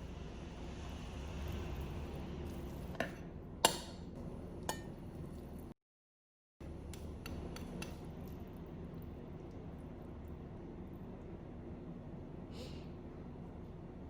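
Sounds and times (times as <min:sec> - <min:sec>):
low room hum: 0:00.0 - 0:05.8, 0:06.6 - 0:14.0.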